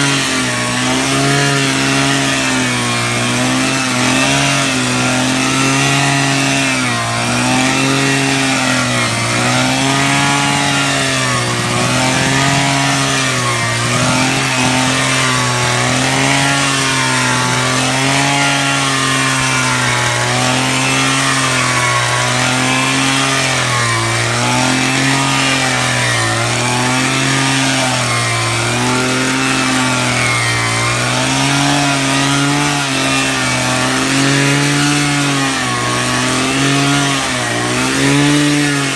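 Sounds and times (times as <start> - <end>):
electric drill motor running: 0.0 - 38.9.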